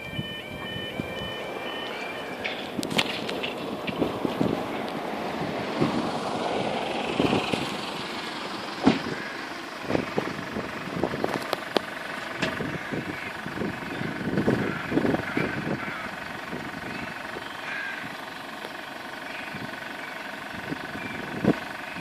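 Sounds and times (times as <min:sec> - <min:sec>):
wind buffeting microphone: 0:00.0 - 0:18.3, 0:20.5 - 0:22.0
pickup truck driving up: 0:00.0 - 0:22.0
truck engine idling: 0:00.0 - 0:22.0.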